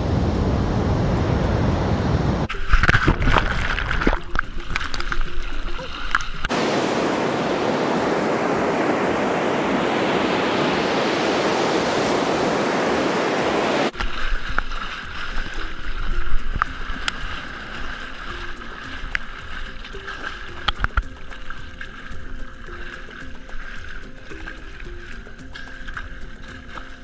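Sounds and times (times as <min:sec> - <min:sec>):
ocean surf rushing: 0:00.0 - 0:26.7.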